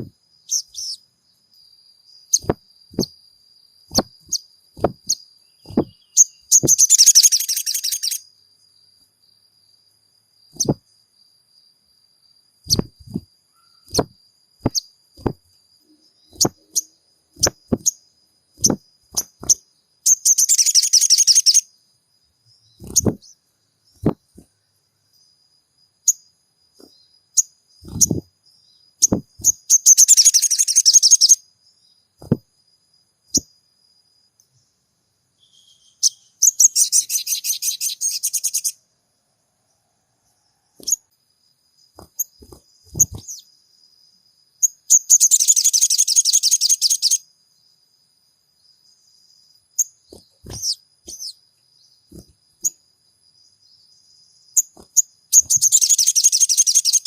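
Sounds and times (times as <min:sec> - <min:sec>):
songbird chirps and buzzy trills: 0:00.0 - 0:57.0.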